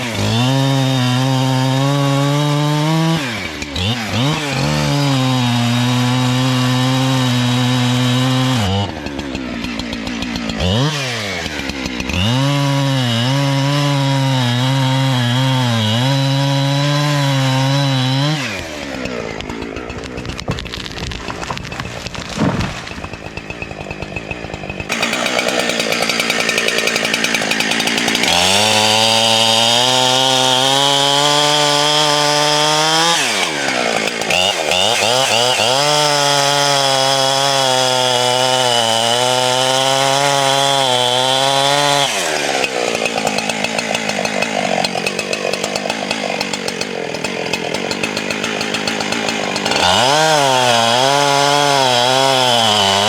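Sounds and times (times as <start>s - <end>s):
chainsaw running at high revs: 0.0s - 53.0s.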